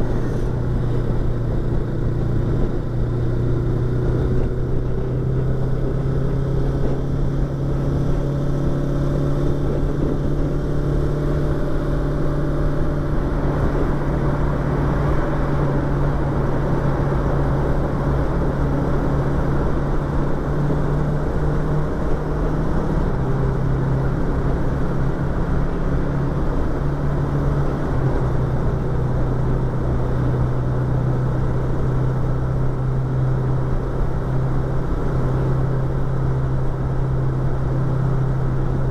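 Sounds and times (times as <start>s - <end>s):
motorcycle engine cruising: 0.0s - 38.9s
road noise: 0.0s - 38.9s
wind noise: 0.0s - 38.9s.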